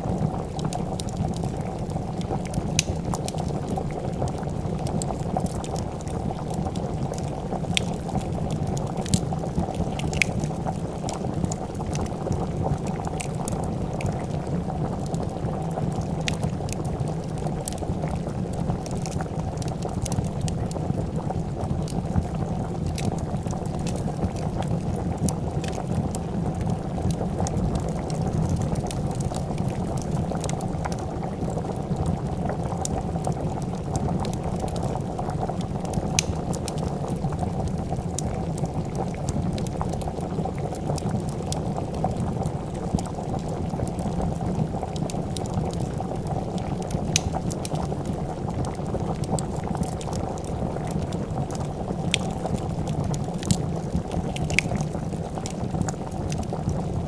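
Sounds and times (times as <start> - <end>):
fire popping and crackling: 0.0 - 57.0
soup bubbling: 0.0 - 57.0.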